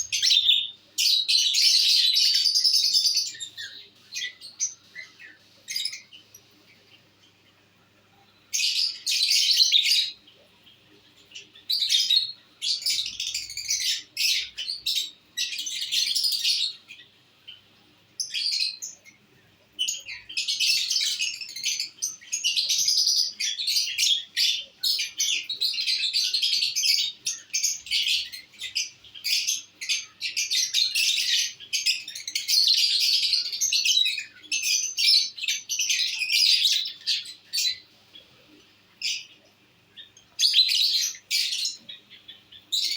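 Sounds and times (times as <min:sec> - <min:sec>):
lovebirds chirping: 0:00.0 - 0:42.9.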